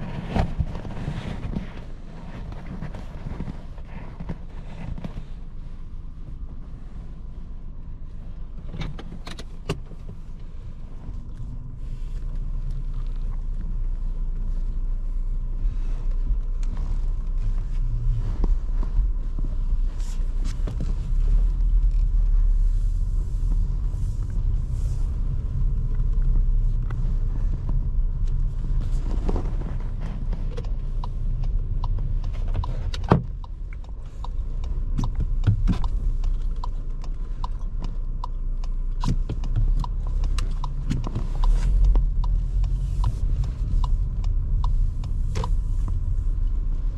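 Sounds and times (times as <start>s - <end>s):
in-cabin engine and road rumble: 0.0s - 46.9s.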